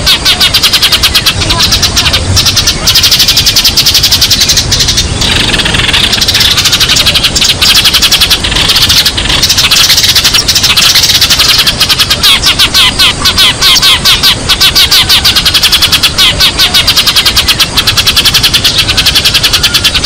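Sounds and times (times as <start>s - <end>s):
flock of sparrows chirping: 0.0s - 20.0s.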